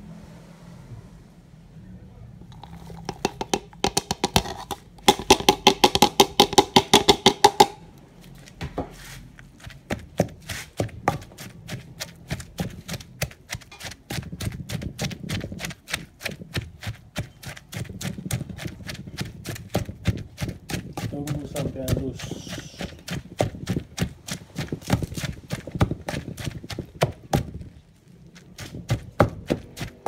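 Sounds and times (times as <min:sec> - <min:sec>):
pestle pounding in stone mortar: 0:02.5 - 0:07.8, 0:09.6 - 0:27.7, 0:28.4 - 0:30.0.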